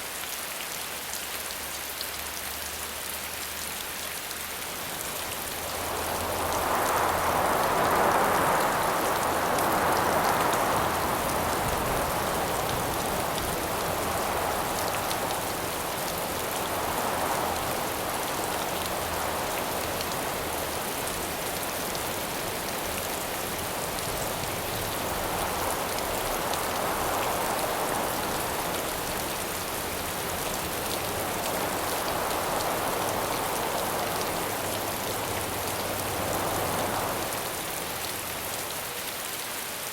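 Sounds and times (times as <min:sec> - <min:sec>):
steady rain falling: 0:00.0 - 0:39.9
wind gusts: 0:04.2 - 0:39.4.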